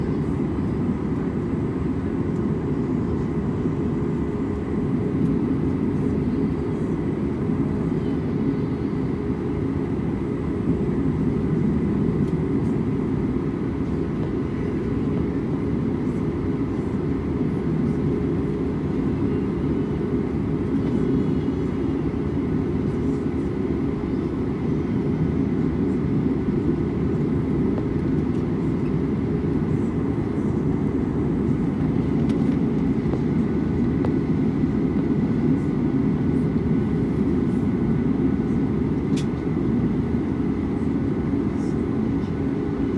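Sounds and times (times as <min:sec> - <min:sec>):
faint steady whines: 0:00.0 - 0:42.9
jet airliner engine rumble: 0:00.0 - 0:42.9.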